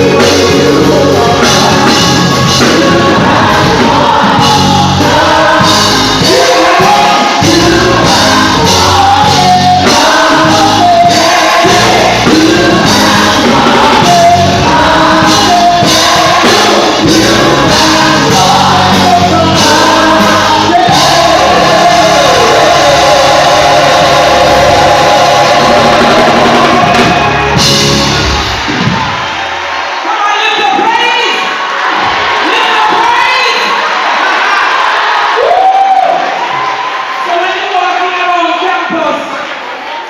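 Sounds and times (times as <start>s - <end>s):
gospel band with choir singing: 0.0s - 40.0s.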